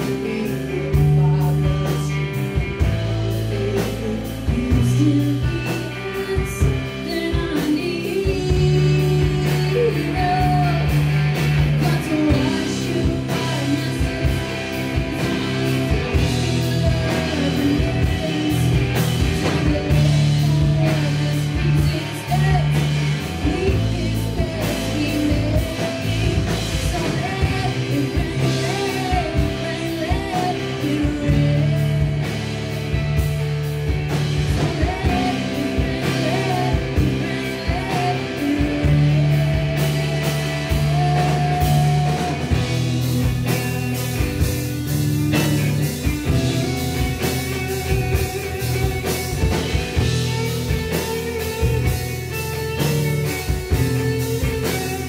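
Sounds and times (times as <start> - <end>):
rock band playing: 0.0 - 55.0
woman singing: 0.0 - 55.0.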